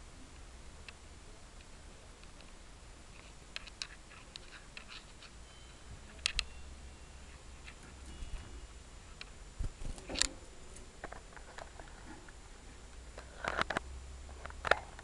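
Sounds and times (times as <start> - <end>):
faint clicks and rustles: 1.6 - 6.6, 7.2 - 15.0.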